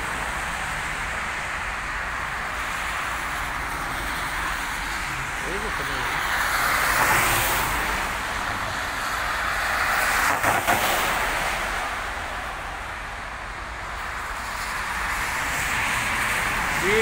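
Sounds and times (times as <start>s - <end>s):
car tyres hissing on wet road: 0.0s - 17.0s.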